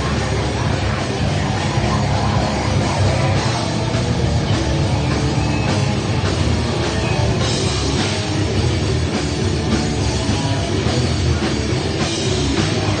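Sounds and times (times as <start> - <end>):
grindcore band playing live: 0.0 - 13.0.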